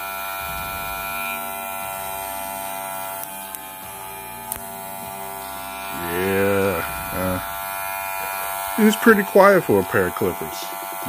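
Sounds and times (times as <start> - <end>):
hair clipper motor hum: 0.0 - 11.0.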